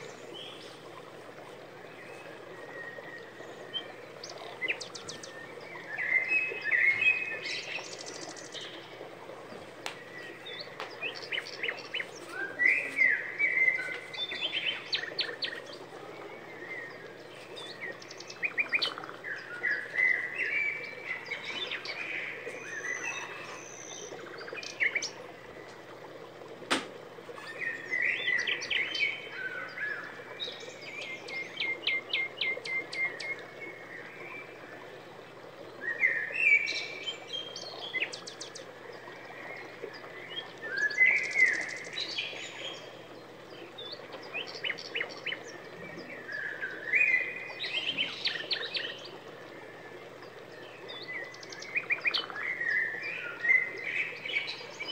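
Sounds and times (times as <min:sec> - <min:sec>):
songbirds singing and chirping: 0:00.0 - 0:54.9.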